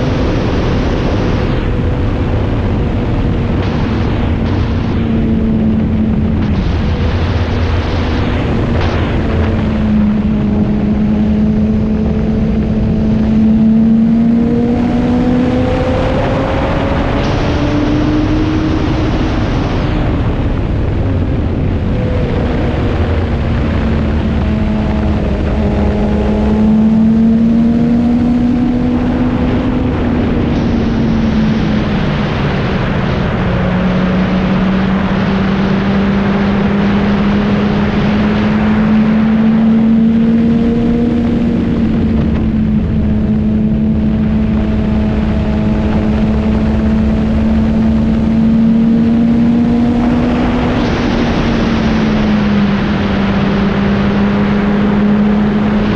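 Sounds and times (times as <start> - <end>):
motorcycle engine running: 0.0 - 19.0, 20.0 - 55.9
wind noise: 0.0 - 55.9.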